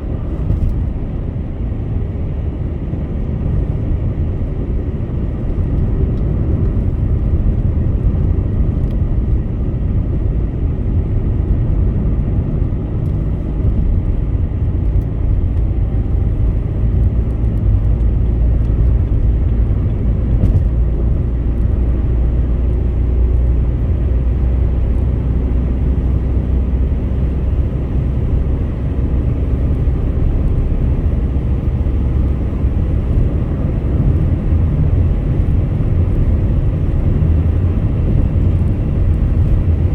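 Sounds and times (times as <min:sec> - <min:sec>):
car engine noise: 0:00.0 - 0:39.9
wind noise: 0:00.0 - 0:39.9.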